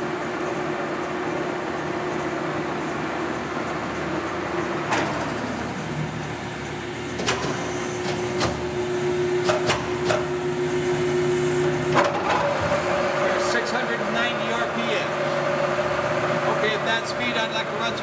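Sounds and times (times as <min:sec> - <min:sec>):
lathe gearing hum: 0:00.0 - 0:18.0.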